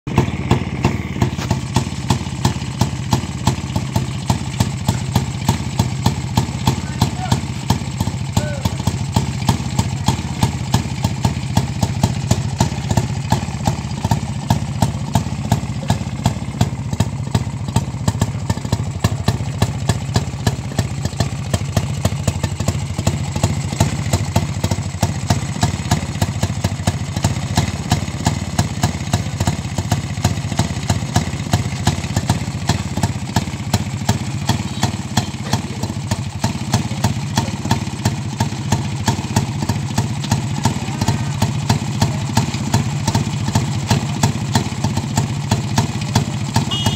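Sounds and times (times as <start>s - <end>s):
motorcycle engine idling: 0.1s - 46.9s.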